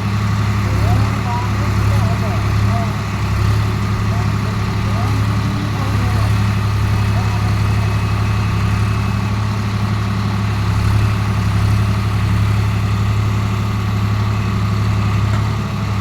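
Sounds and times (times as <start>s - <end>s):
tractor diesel engine droning: 0.0s - 16.0s.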